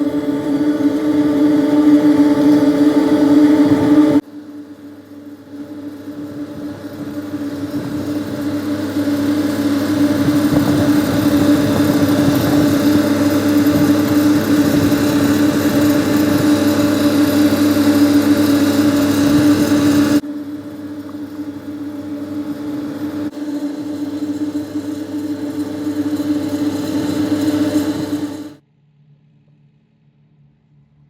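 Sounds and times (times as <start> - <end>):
machinery engine droning: 0.0 - 28.6.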